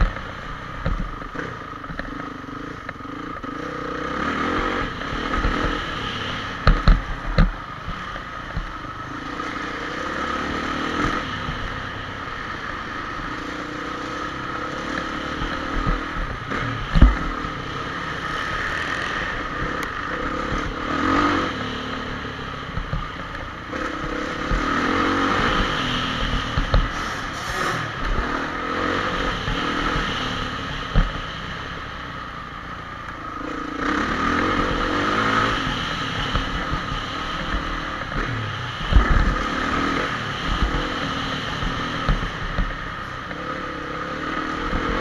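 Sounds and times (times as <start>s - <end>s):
motorbike engine revving: 0.0s - 32.0s, 33.2s - 45.0s.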